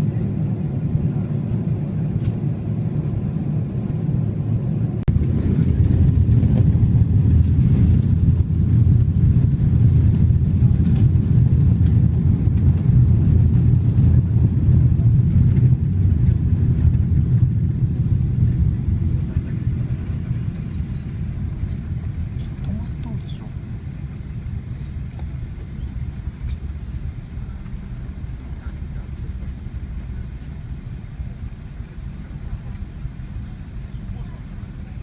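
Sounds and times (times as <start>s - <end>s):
low cabin rumble: 0.0s - 35.0s.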